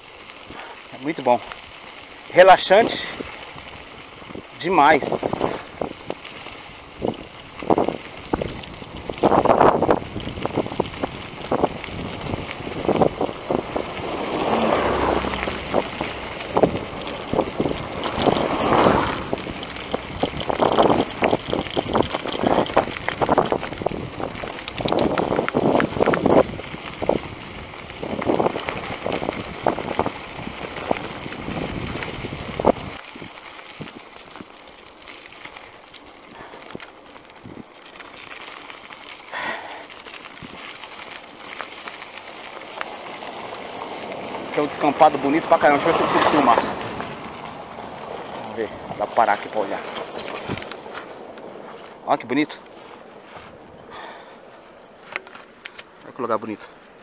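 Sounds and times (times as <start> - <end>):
bicycle tyres crunching on gravel: 0.0 - 57.0
bike rattling clicks: 0.2 - 47.5, 48.4 - 52.9, 53.9 - 56.7
wind buffeting microphone: 2.6 - 34.6, 36.3 - 37.8, 40.2 - 41.2, 42.5 - 54.4.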